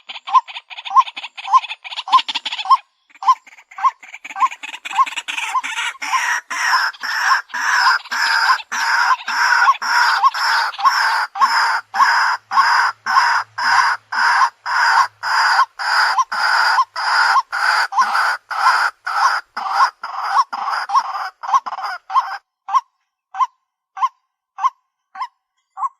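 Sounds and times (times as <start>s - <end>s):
waterhen croaking calls: 0.0s - 25.9s.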